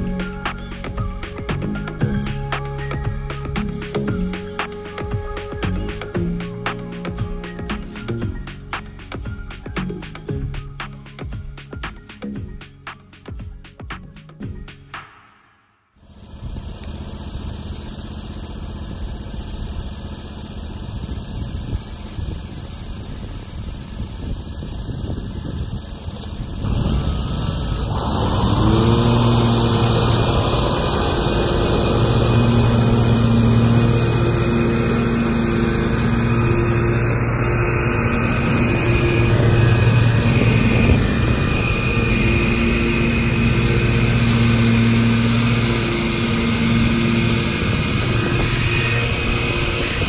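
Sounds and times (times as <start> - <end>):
lawn mower engine running: 0.0 - 11.1, 16.0 - 50.0.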